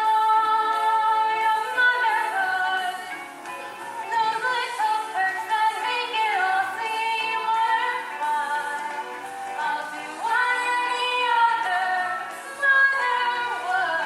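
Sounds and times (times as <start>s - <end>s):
girl singing: 0.0s - 3.1s, 4.1s - 9.0s, 9.6s - 14.0s.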